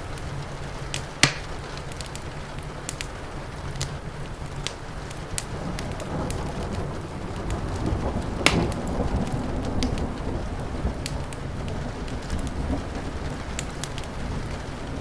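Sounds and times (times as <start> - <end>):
fire crackling and popping: 0.0 - 15.0
steady rain: 0.0 - 15.0
thunder rumbling: 0.0 - 15.0.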